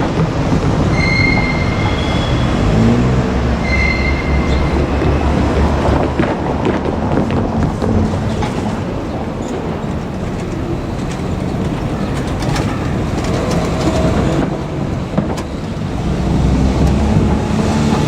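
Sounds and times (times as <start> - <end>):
diesel train rumbling past: 0.0 - 18.0
sharp clicks of wheels: 0.0 - 18.0.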